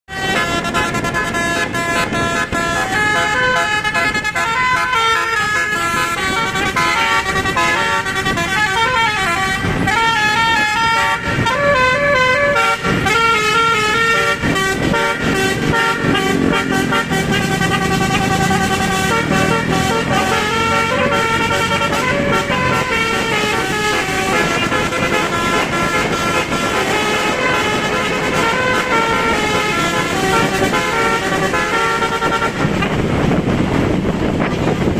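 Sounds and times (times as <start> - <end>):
multi-note musical air horn: 0.1 - 33.2
bus engine running: 0.1 - 34.9.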